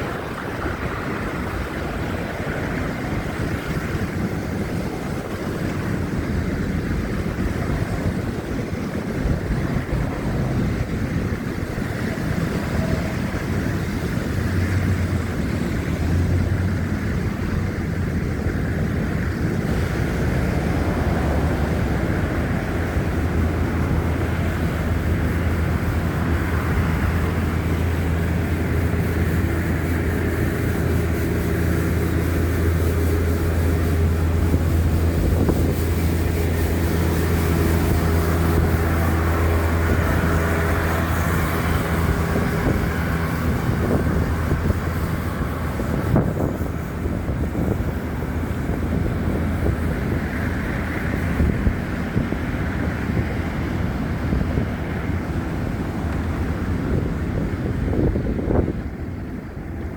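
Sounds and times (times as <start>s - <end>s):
low rumble of city traffic: 0.0s - 59.9s
wind buffeting microphone: 0.0s - 59.9s.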